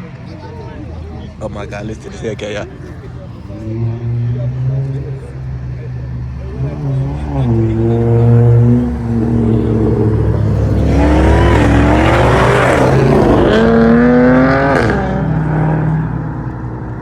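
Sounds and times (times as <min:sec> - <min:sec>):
steady engine drone: 0:00.0 - 0:17.0
vehicle engines accelerating: 0:00.0 - 0:17.0.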